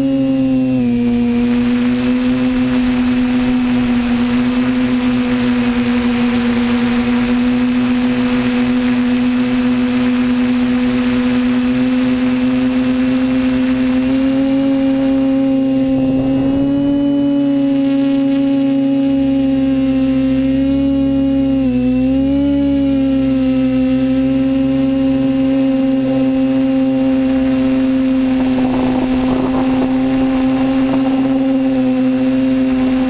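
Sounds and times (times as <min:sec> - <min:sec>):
drone propellers whining: 0:00.0 - 0:20.6, 0:24.9 - 0:33.0.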